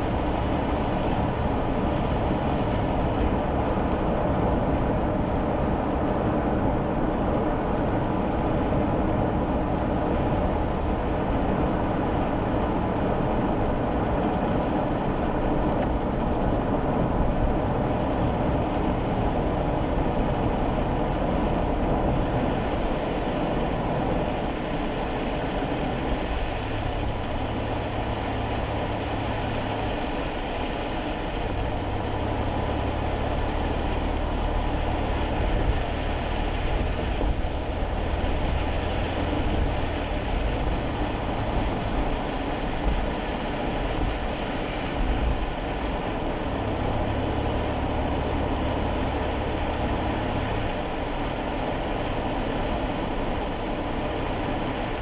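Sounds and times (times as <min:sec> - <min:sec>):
car engine humming: 0:00.0 - 0:55.0
road and tyre noise: 0:00.0 - 0:55.0.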